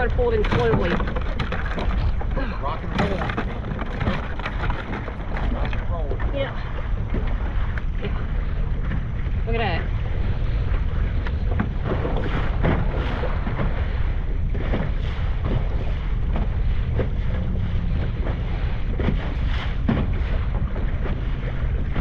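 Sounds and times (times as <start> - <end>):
waves splashing against hull: 0.0 - 22.0
wind buffeting microphone: 0.0 - 22.0.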